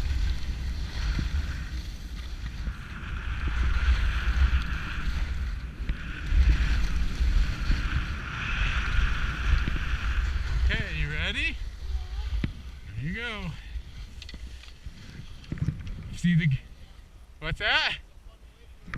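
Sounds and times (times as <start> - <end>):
skis sliding over snow: 0.0 - 16.6
wind buffeting microphone: 0.0 - 16.8.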